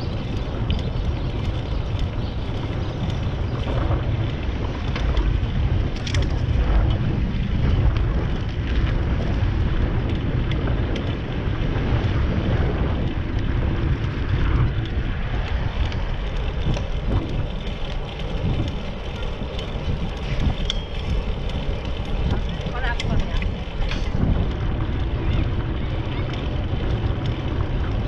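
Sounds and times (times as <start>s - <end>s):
road and tyre noise: 0.0s - 28.0s
small clicks and rattles: 0.0s - 28.0s
wind buffeting microphone: 0.0s - 28.0s.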